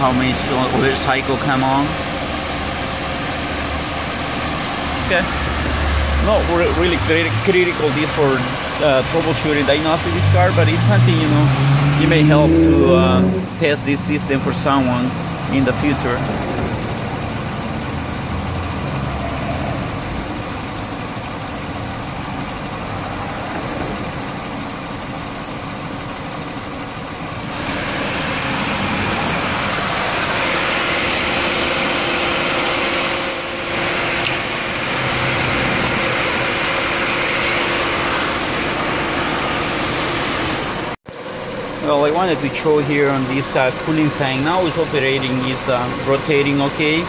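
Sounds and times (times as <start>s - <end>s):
cooling fan rushing air: 0.0s - 26.6s, 27.3s - 47.0s
car engine idling: 0.0s - 47.0s.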